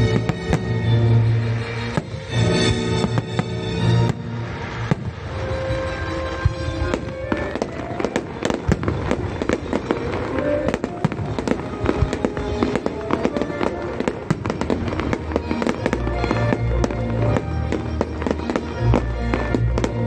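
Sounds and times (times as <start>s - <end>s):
fireworks bangs and crackles: 0.0s - 20.0s
loud music soundtrack: 0.0s - 20.0s.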